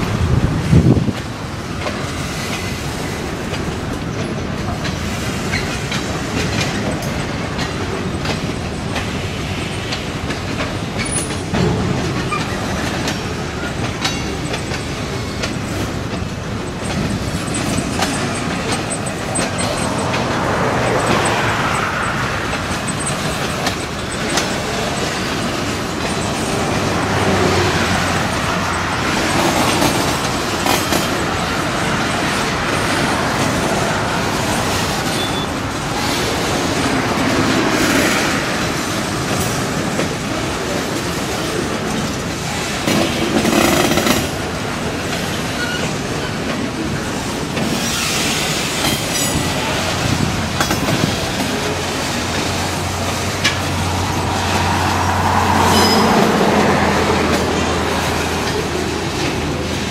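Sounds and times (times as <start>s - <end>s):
steel wheels rumbling on rail: 0.0s - 59.9s
wheels clicking over rail joints: 0.0s - 59.9s.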